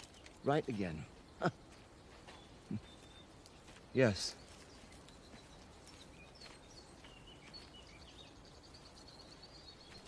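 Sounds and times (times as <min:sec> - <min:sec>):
small birds chirping softly: 0:00.0 - 0:10.0.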